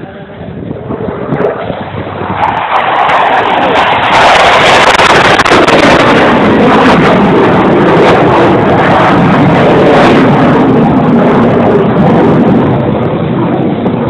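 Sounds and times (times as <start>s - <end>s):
jet engine roaring: 0.0s - 14.0s.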